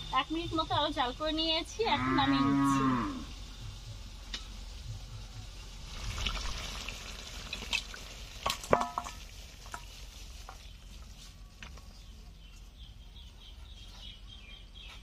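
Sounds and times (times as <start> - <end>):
soft sizzle: 0.0 - 15.0.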